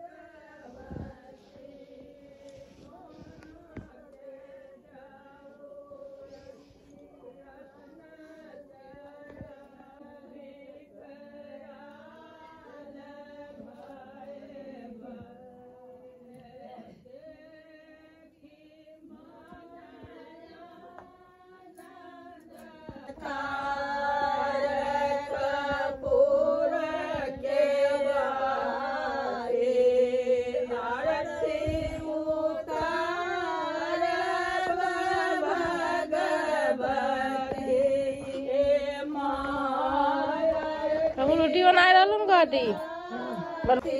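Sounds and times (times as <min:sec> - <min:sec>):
women singing together: 0:00.0 - 0:43.9.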